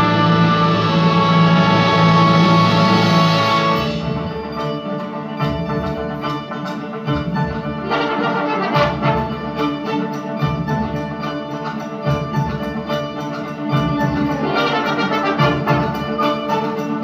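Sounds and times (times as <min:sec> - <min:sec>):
folk orchestra playing: 0:00.0 - 0:17.0
rapid plucked notes: 0:00.0 - 0:17.0.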